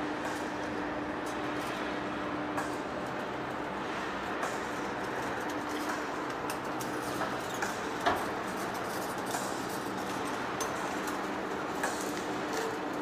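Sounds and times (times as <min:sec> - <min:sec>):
lathe humming and rumbling: 0:00.0 - 0:13.0.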